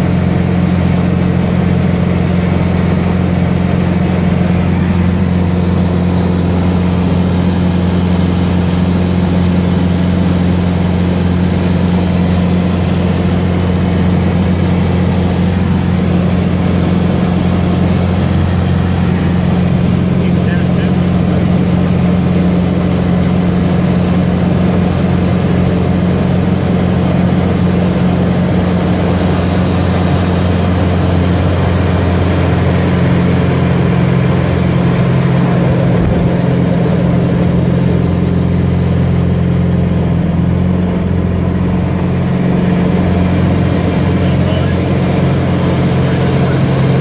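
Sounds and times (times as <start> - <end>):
light aircraft engine droning: 0.0 - 47.0.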